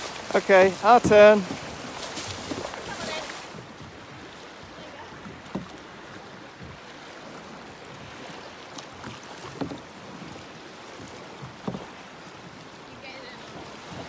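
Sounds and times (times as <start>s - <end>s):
water lapping on rocky shore: 0.0s - 14.0s.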